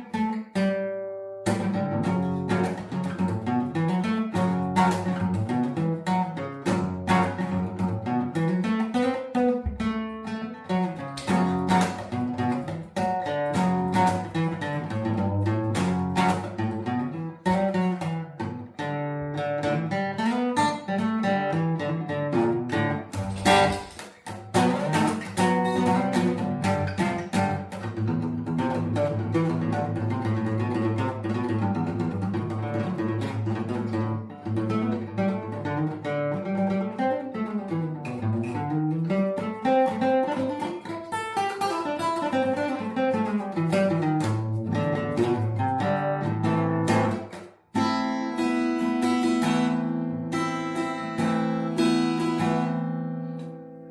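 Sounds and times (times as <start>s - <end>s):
acoustic guitar music: 0.0s - 53.9s.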